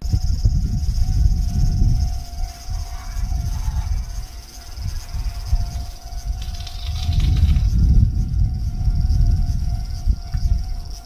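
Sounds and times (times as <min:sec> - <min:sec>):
insects shrilling: 0:00.0 - 0:11.0
wind rumbling on microphone: 0:00.0 - 0:11.0.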